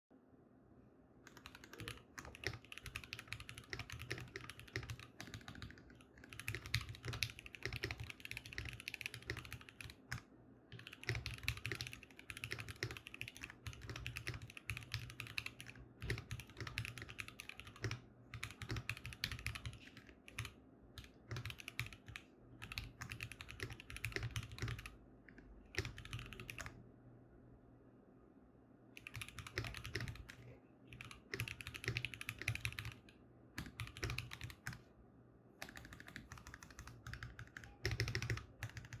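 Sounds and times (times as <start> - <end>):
mechanical keyboard typing: 1.3 - 26.8, 29.0 - 34.8, 35.6 - 39.0.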